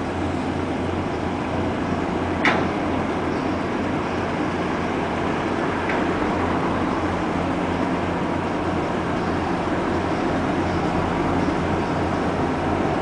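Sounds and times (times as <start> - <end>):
ship engine rumbling: 0.0 - 13.0.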